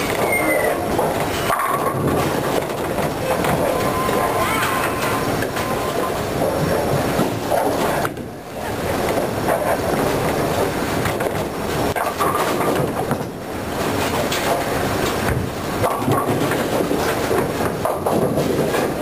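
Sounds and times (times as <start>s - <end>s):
bowling balls rolling: 0.0s - 19.0s
bowling pins clattering: 0.0s - 19.0s.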